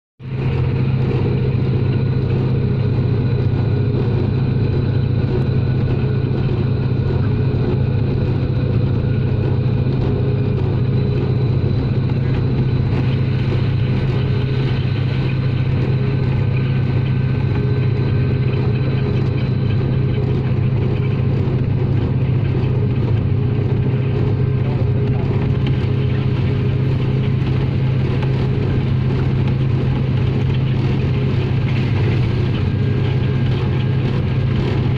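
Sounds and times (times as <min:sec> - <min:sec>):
locomotive engine drone: 0:00.2 - 0:34.9
steady whining tones: 0:00.2 - 0:34.9.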